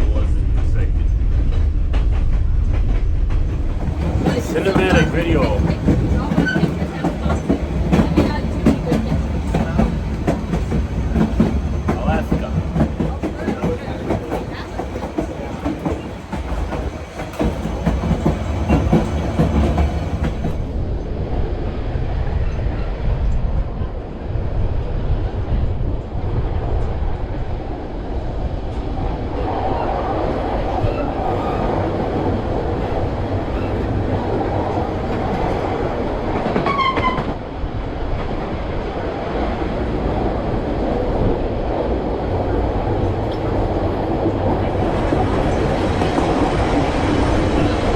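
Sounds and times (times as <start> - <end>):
train wheels rumbling on rails: 0.0 - 21.4, 24.1 - 47.9.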